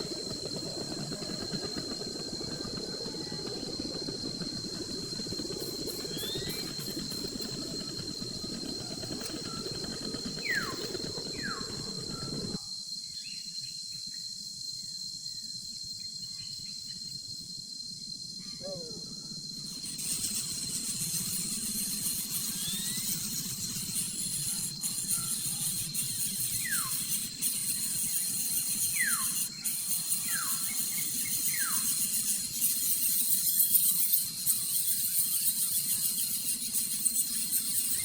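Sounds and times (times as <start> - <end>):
high-pitched insect drone: 0.0 - 38.0.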